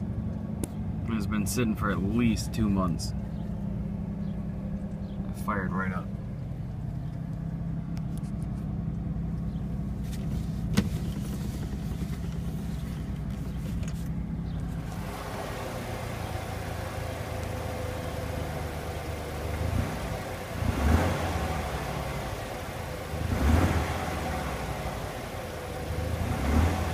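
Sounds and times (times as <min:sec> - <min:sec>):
engine idling: 0:00.0 - 0:26.9
engine throttle blips: 0:00.0 - 0:26.9.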